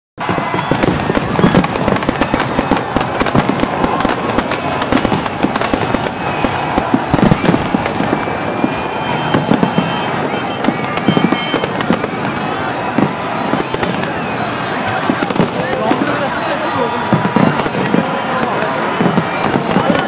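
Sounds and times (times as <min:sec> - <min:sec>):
fireworks crackling and banging: 0:00.2 - 0:20.0.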